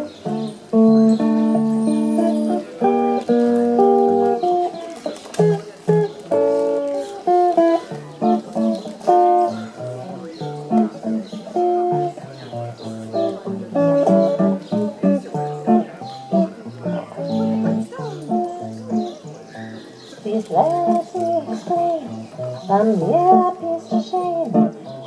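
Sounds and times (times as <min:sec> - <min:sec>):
jazz guitar playing: 0:00.0 - 0:25.0.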